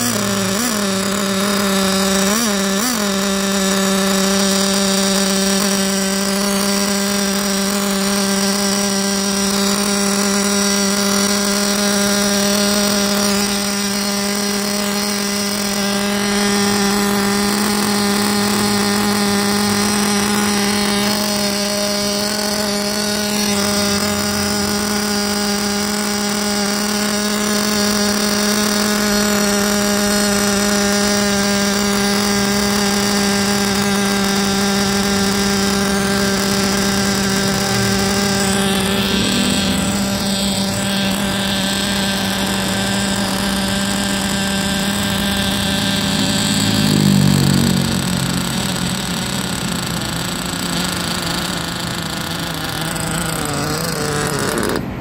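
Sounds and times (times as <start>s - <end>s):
small engine high-pitched idle: 0.0s - 55.0s.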